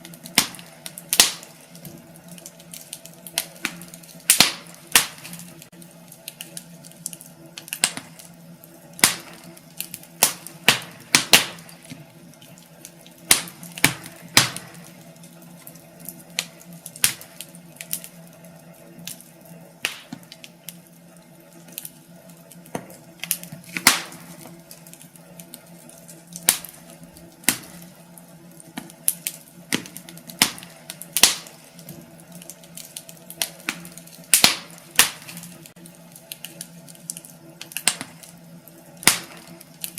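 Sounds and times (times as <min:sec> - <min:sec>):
steady low hum: 0:00.0 - 0:39.9
wood fire crackling and popping: 0:00.0 - 0:39.9.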